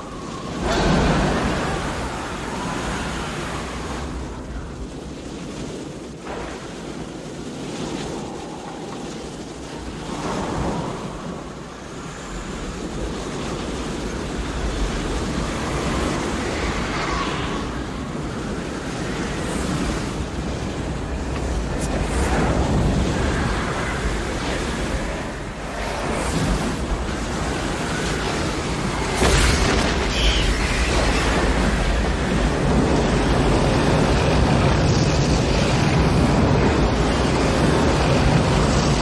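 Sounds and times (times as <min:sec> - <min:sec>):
strong wind gusts: 0:00.0 - 0:39.0.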